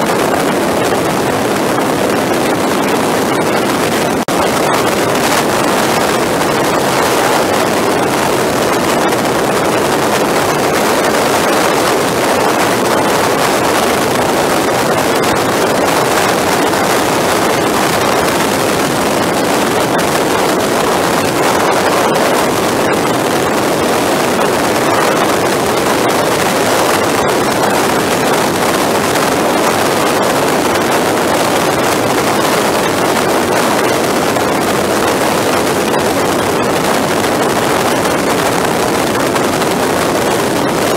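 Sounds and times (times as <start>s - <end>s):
motorcycle engine and road noise: 0.0s - 40.9s
wind rushing on microphone: 0.0s - 40.9s.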